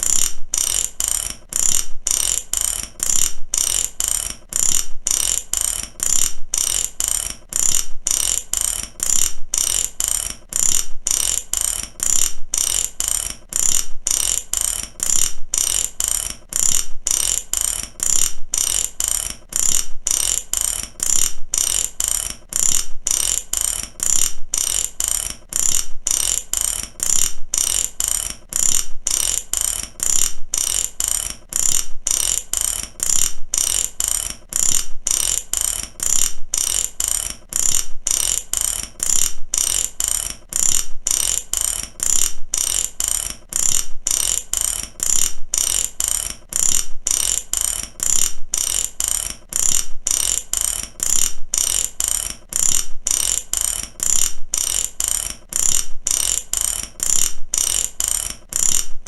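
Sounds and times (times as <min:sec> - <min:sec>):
ratchet wrench clicking: 0:00.0 - 0:59.0.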